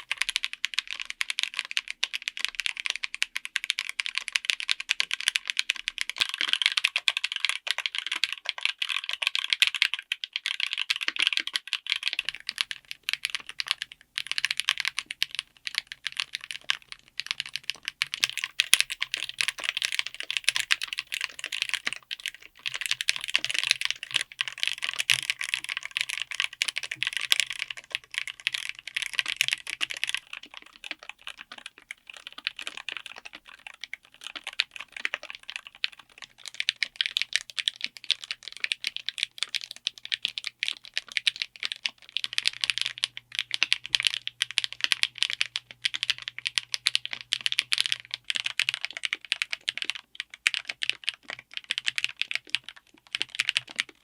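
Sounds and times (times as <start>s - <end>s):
typing on mechanical keyboard: 0.0s - 54.0s.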